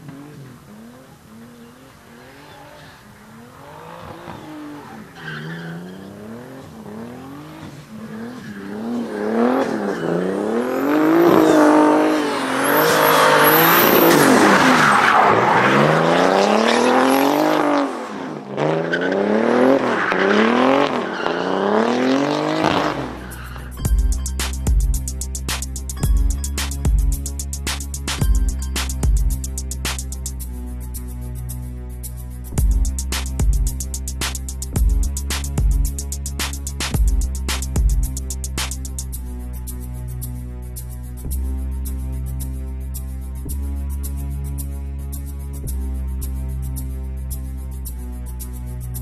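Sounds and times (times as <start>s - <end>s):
car engine revving: 0.0s - 44.7s.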